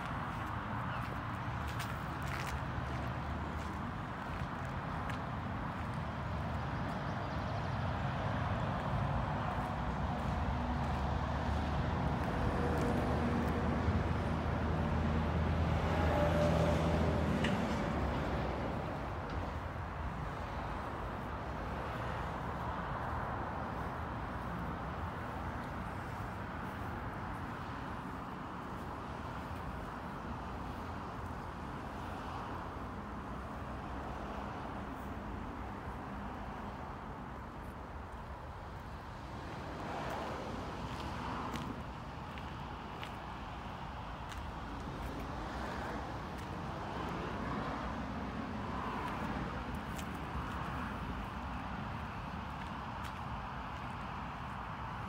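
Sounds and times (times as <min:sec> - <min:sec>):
distant road traffic hum: 0:00.0 - 0:55.0
outdoor background noise: 0:00.0 - 0:55.0.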